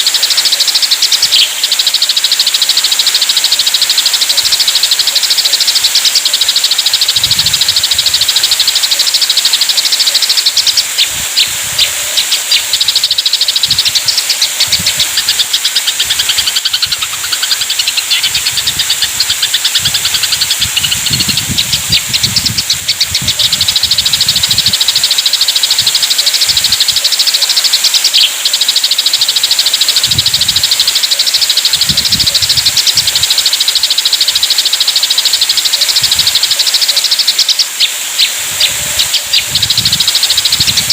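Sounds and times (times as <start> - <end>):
sparrows chattering: 0.0 - 40.9.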